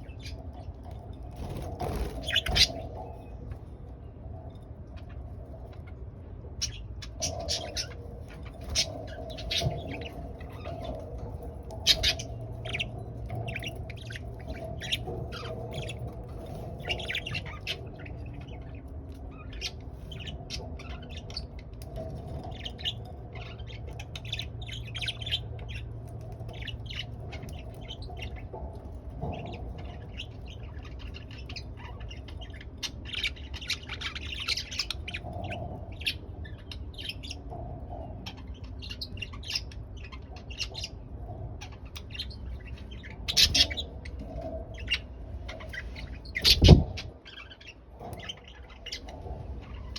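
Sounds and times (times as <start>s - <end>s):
steady low hum: 0.0s - 49.9s
budgerigars chirping: 1.4s - 3.2s, 6.6s - 28.6s, 29.2s - 37.5s, 38.2s - 49.9s.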